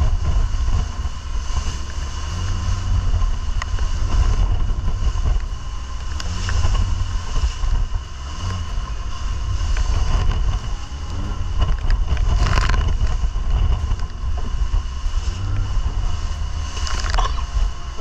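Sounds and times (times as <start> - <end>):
churning wake and spray: 0.0 - 18.0
outboard motor rumbling: 0.0 - 18.0.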